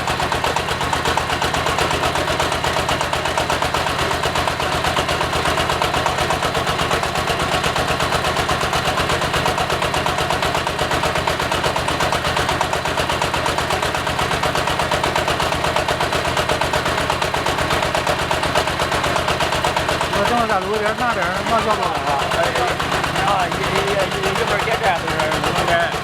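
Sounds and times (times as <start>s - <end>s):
diesel engine knocking: 0.0s - 26.0s.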